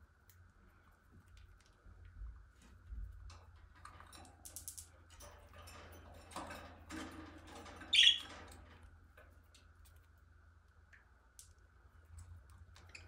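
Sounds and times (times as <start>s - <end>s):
small beak clicks and rustles: 0.2s - 13.0s.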